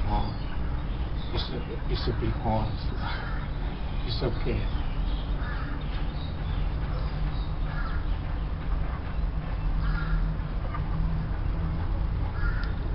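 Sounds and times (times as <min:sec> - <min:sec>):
bird calling: 0:00.0 - 0:11.0, 0:12.2 - 0:12.9.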